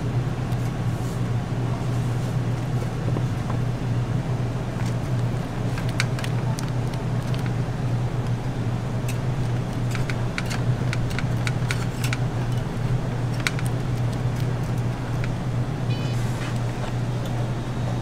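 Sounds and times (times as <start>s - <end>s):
kitchen machinery humming: 0.0s - 18.0s.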